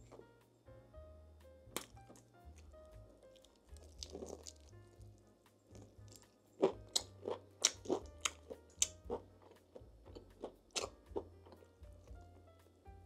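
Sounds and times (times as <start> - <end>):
crunchy food chewing: 1.7 - 12.4.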